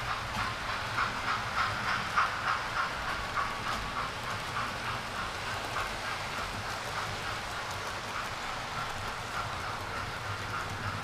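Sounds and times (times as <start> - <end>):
model train humming: 0.0 - 11.0
model train wheels clicking: 0.0 - 11.0.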